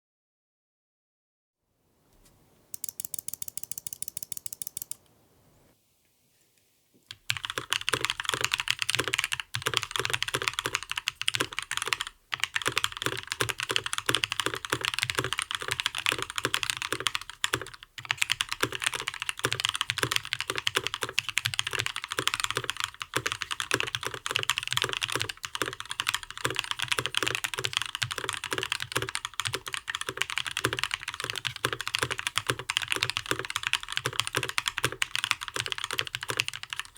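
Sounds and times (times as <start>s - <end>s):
fast mechanical keyboard typing: 2.8s - 5.0s, 7.1s - 36.9s.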